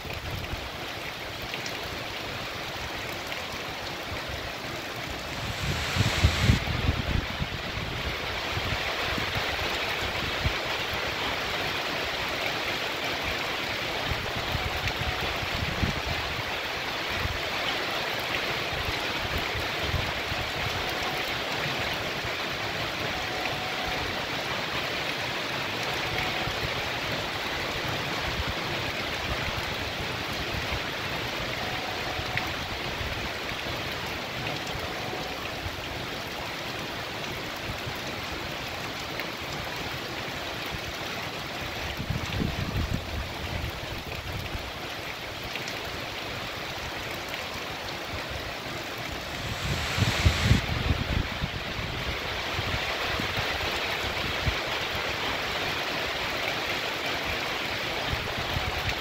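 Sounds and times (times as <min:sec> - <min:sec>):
heavy rain falling: 0:00.0 - 0:59.0
water running over pavement: 0:00.0 - 0:59.0.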